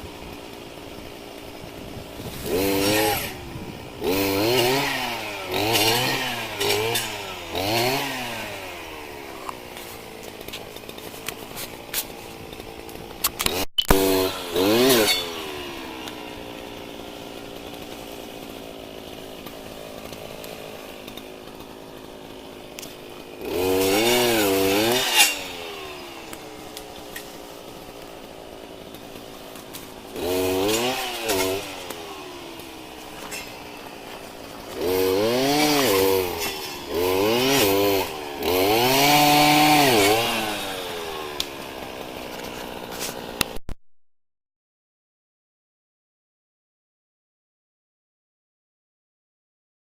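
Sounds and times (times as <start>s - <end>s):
chainsaw idling and revving: 0.0s - 43.6s.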